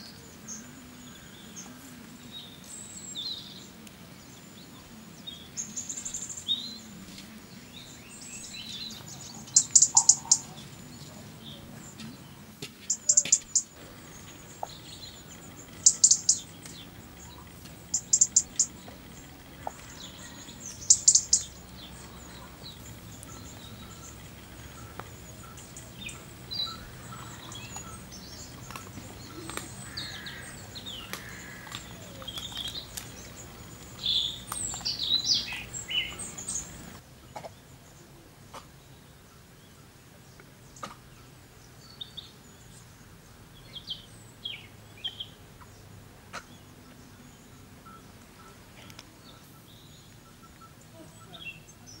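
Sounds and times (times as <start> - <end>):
songbird chirping: 0.0 - 52.0.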